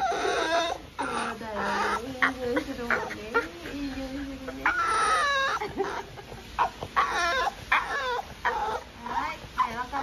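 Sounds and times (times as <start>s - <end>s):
dog whining: 0.0s - 9.9s.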